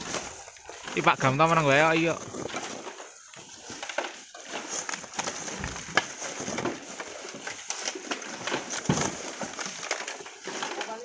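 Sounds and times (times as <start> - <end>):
shovels scraping gravel: 0.0 - 11.0.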